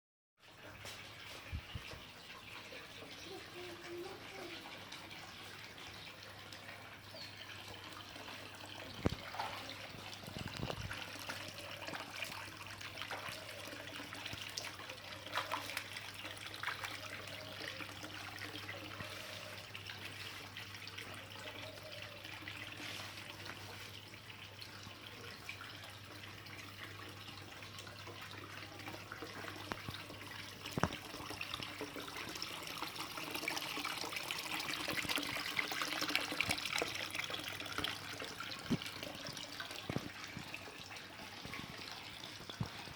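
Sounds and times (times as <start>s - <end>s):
fountain water trickling: 0.4s - 42.9s.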